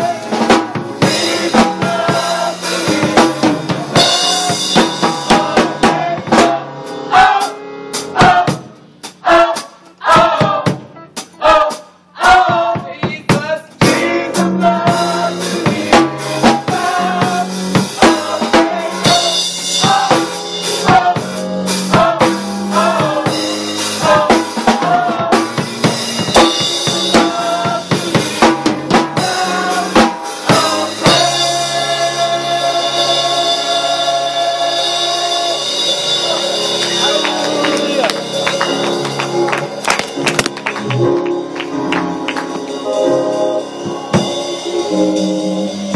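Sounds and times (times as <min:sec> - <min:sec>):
bass line: 0:00.0 - 0:45.9
drum kit hits: 0:00.0 - 0:45.9
gospel band music: 0:00.0 - 0:45.9.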